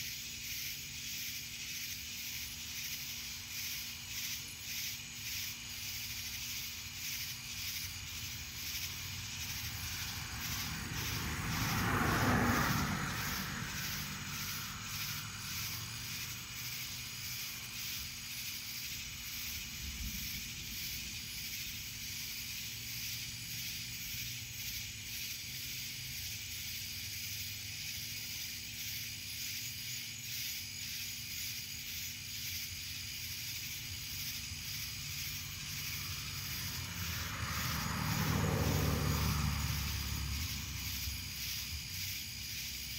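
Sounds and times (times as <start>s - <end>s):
cicadas pulsing: 0.0s - 42.9s.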